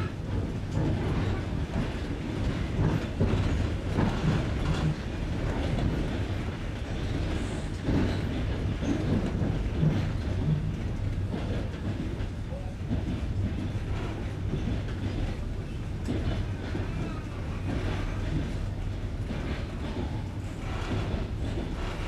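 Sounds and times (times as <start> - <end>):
rumble of moving carriage: 0.0 - 22.0
train wheels clicking over rail joints: 0.1 - 22.0.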